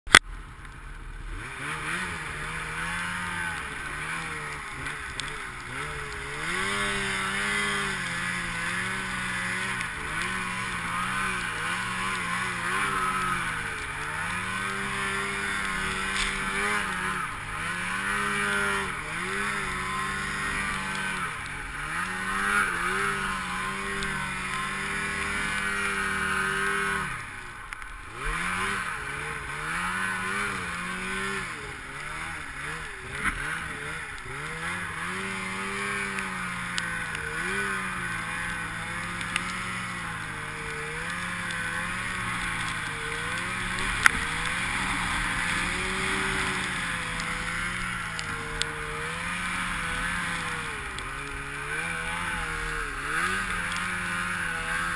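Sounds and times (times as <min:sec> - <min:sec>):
snowmobile engine revving: 0:00.9 - 0:54.9.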